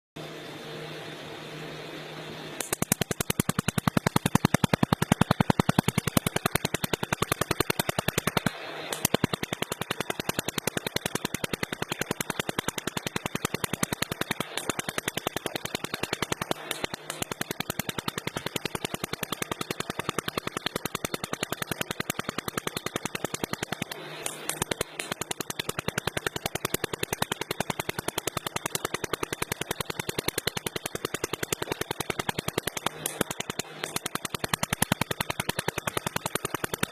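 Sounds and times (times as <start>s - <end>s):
welding arc crackling: 2.6s - 36.9s.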